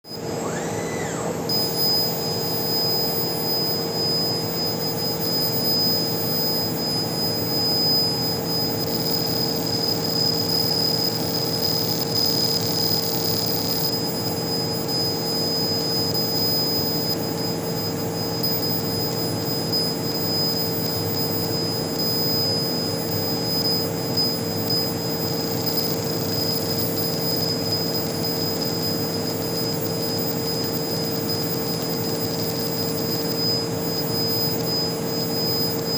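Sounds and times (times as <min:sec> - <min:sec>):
laser machine hum: 0:00.1 - 0:35.9
thin high whine: 0:00.1 - 0:35.9.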